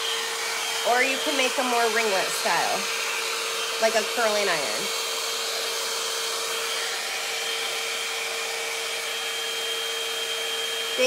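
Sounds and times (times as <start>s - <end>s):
hot-air brush blowing: 0.0s - 11.0s.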